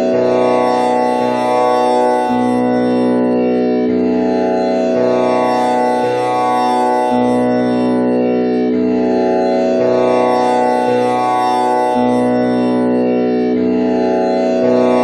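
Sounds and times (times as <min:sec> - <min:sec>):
tanpura drone: 0:00.0 - 0:15.0.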